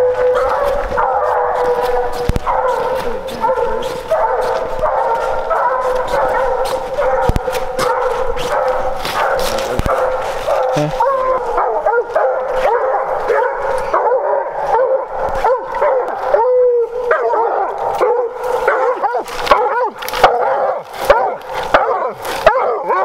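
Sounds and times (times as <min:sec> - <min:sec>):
dog chop barks: 0:00.0 - 0:16.5, 0:17.1 - 0:23.0
dog long bawl: 0:00.0 - 0:23.0.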